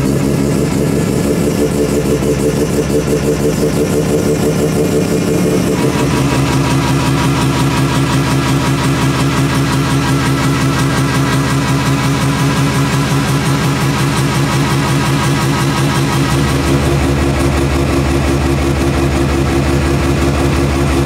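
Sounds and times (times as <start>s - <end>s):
rotary engine idling: 0.0s - 21.0s.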